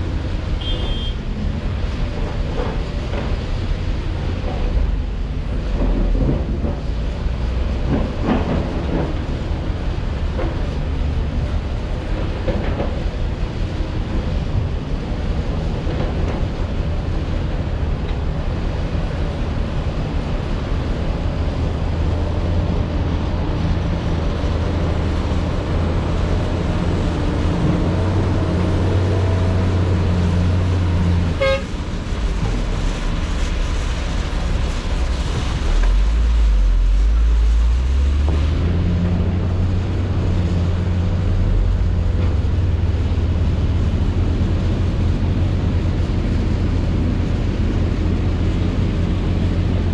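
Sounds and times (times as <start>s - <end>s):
diesel machinery engine drone: 0.0s - 49.9s.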